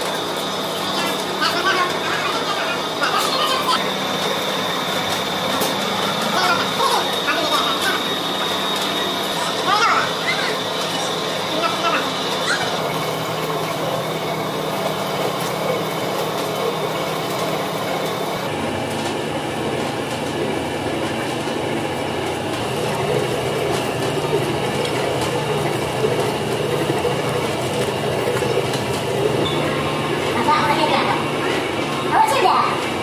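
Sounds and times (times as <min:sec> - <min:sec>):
dough mixer humming and rumbling: 0:00.0 - 0:33.0.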